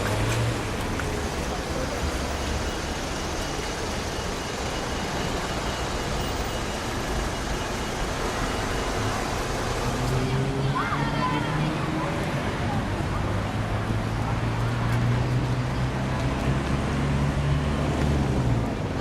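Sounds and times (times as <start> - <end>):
boat engine rumble: 0.0 - 16.6.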